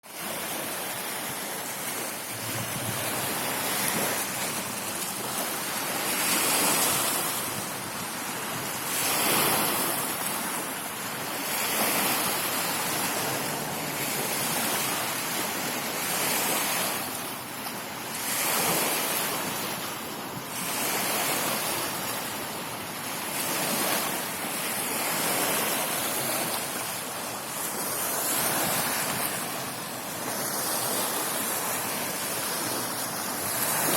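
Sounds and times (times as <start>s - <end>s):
ocean waves washing ashore: 0.0s - 33.9s.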